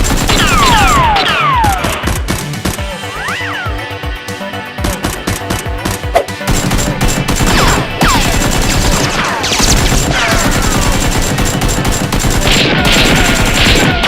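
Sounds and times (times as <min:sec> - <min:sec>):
gunfire sound effects: 0:00.0 - 0:03.4, 0:04.8 - 0:14.0
background music: 0:00.2 - 0:14.0.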